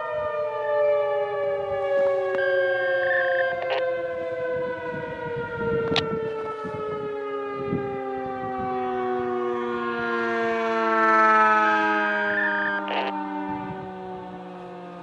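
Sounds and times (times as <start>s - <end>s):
warning siren winding down: 0.0s - 15.0s.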